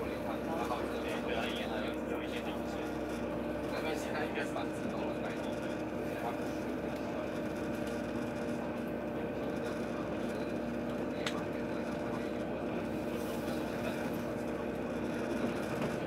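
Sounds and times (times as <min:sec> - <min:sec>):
train mechanical hum: 0:00.0 - 0:16.0.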